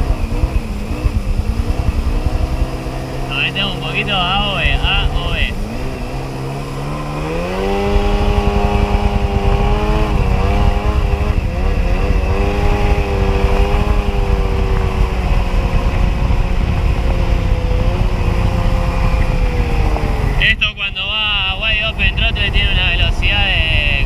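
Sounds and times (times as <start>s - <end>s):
jet ski engine: 0.0s - 24.0s
rush of wind and water: 0.0s - 24.0s.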